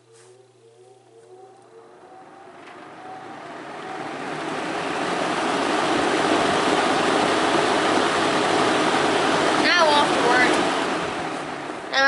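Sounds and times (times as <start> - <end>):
fan blowing air: 0.0 - 12.0.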